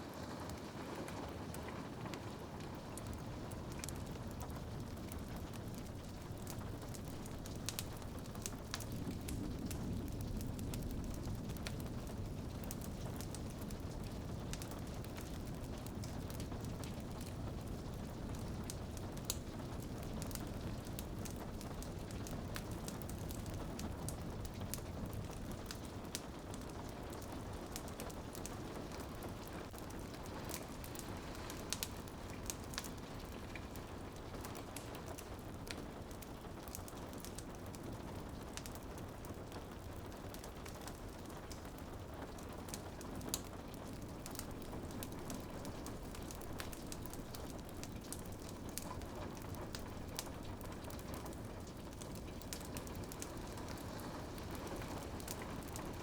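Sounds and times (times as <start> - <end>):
rain on a window: 0.0 - 56.0
wood fire crackling: 0.0 - 56.0.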